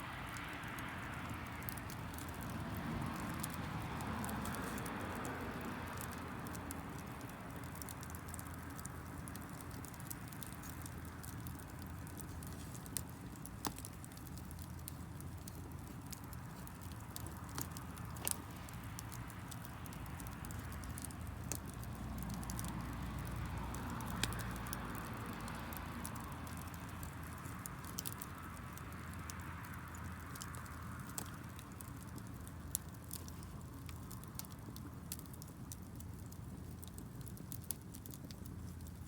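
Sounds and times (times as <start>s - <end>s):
low rush of burning: 0.0s - 39.0s
wood fire crackling: 0.0s - 39.0s
sharp pops from fire: 0.3s - 39.0s.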